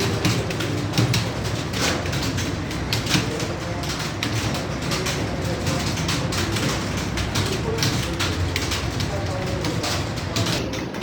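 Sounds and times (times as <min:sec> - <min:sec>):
keyboards typing fast: 0:00.0 - 0:11.0.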